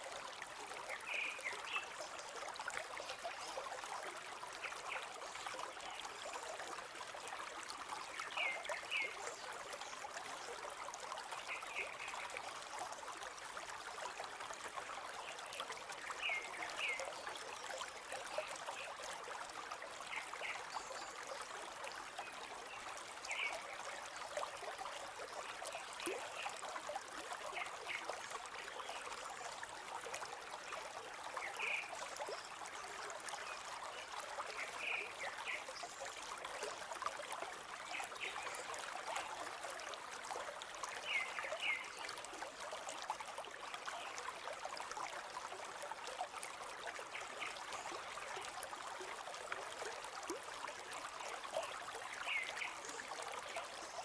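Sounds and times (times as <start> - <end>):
forest stream trickling: 0.0 - 54.0.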